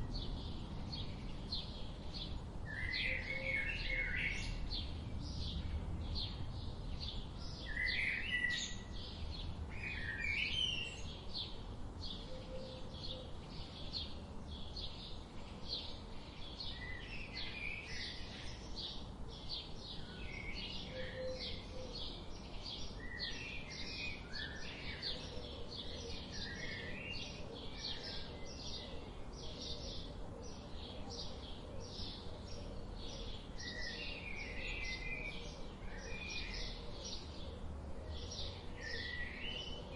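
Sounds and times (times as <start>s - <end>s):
lower varied bird calls: 0.0s - 39.9s.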